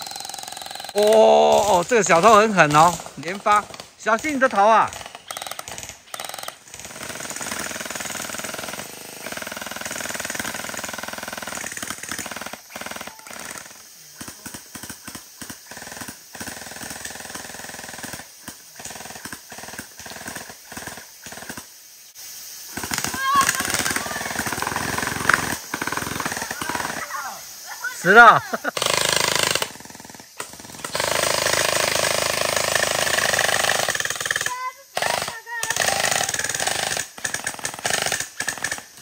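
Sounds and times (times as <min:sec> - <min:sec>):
gel blaster firing rattle: 0:00.0 - 0:21.7, 0:22.7 - 0:39.0.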